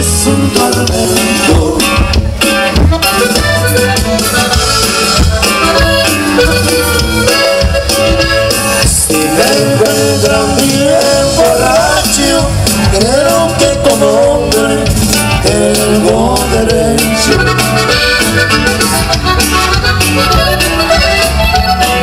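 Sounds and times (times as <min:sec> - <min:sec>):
accordion melody: 0:00.0 - 0:22.0
band playing dance music: 0:00.0 - 0:22.0.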